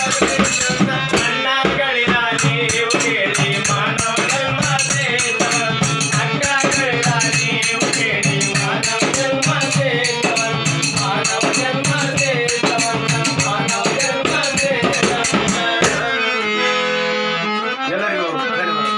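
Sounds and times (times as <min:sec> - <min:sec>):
person singing: 0:00.0 - 0:16.8
harmonium: 0:00.0 - 0:18.9.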